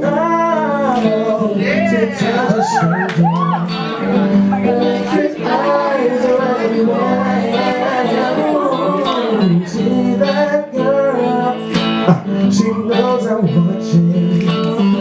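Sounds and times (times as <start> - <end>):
acoustic guitar: 0.0 - 15.0
woman and man singing: 0.0 - 15.0.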